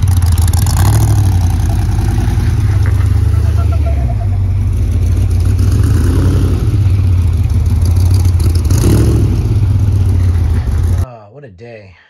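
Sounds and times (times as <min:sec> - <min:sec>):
truck engine rumbling: 0:00.0 - 0:11.1.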